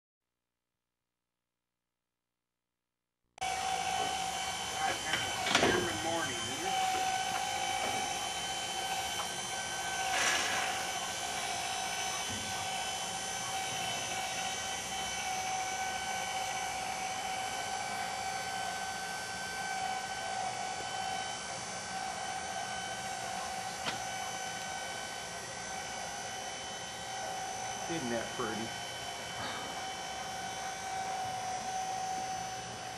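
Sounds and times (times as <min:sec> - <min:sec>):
electric motor whining: 0:03.4 - 0:32.9.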